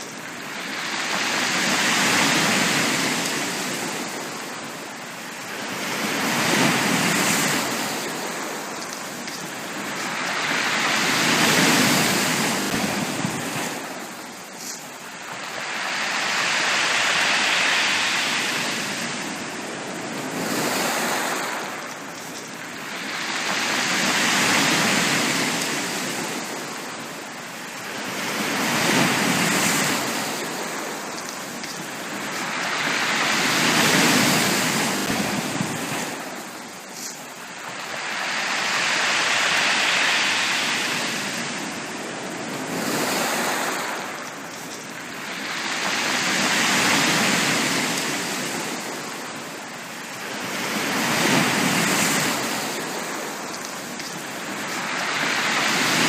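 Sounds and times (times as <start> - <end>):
sea waves breaking on a beach: 0.0 - 56.0.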